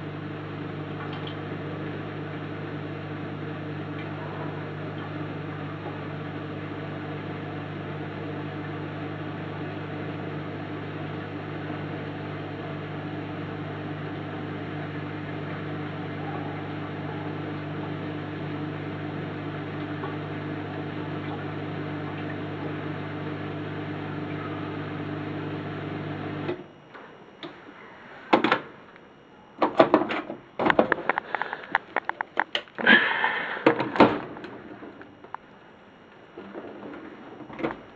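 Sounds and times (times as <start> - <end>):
dishwasher pump humming: 0.0 - 28.8, 29.6 - 37.9.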